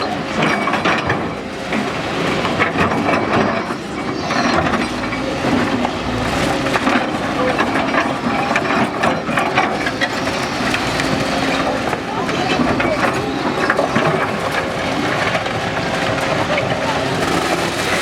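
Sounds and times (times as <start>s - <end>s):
clattering and cracking debris: 0.0s - 18.0s.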